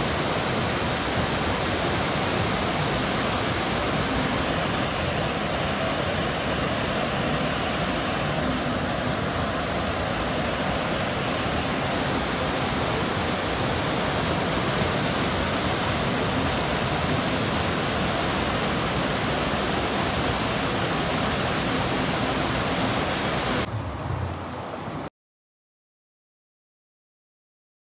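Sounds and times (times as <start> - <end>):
rushing water: 0.0 - 25.1.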